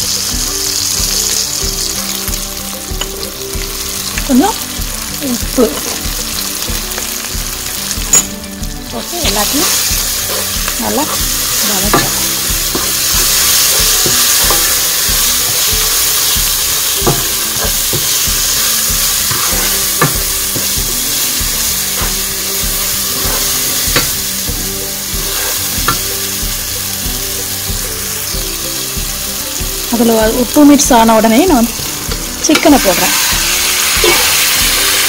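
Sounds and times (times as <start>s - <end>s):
masala sizzling in oil: 0.0s - 35.0s.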